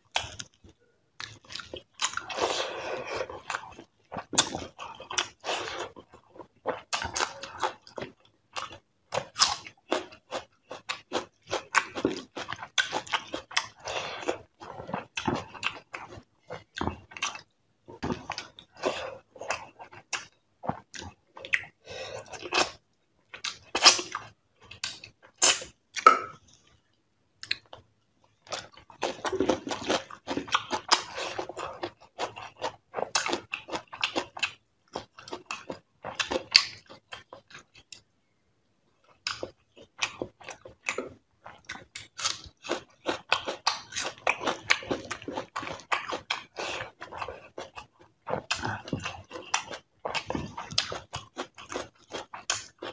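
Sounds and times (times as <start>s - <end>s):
person chewing crunchy food: 0.1s - 26.8s, 27.4s - 38.1s, 39.0s - 52.9s.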